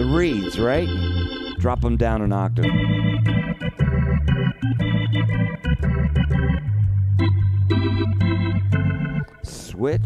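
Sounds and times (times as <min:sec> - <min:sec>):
moving bass line: 0:00.0 - 0:09.3
organ playing punchy jazz chords: 0:00.0 - 0:10.0.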